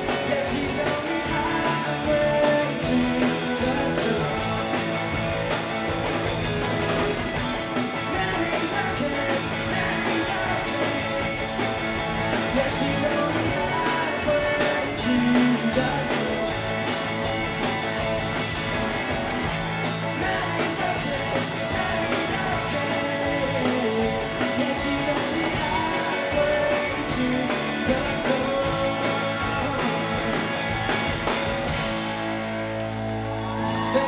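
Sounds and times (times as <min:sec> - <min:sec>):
drum kit: 0:00.0 - 0:34.0
electric bass: 0:00.0 - 0:34.0
electric guitars: 0:00.0 - 0:34.0.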